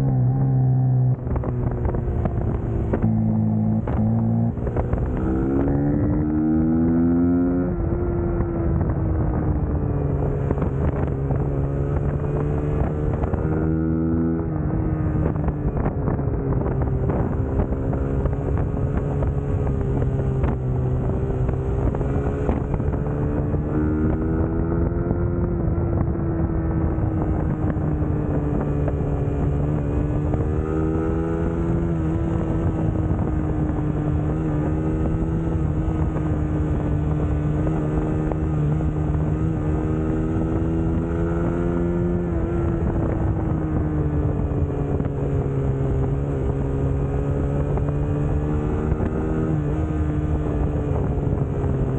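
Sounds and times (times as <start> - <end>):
motorcycle engine cruising: 0.0 - 51.9
wind noise on microphone: 0.0 - 51.9.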